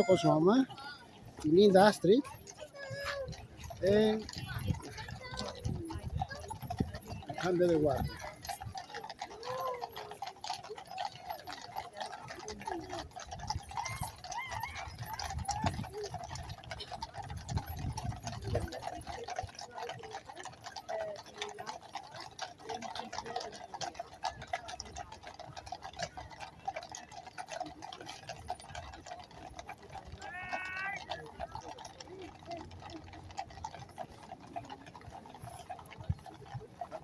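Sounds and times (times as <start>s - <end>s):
horses' hooves clopping on road: 0.0s - 37.0s
murmur of crowd voices: 0.0s - 37.0s.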